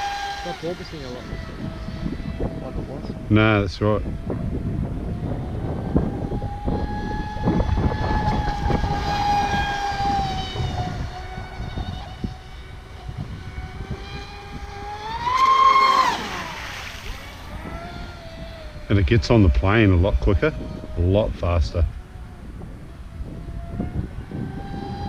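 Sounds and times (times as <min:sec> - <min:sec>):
rc boat motor whining: 0:00.0 - 0:25.0.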